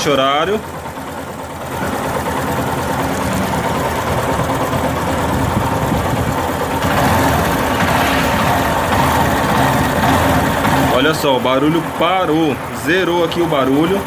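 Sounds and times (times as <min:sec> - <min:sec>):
engine ticking: 0:00.0 - 0:14.0
motorcycle engine idling: 0:00.0 - 0:14.0.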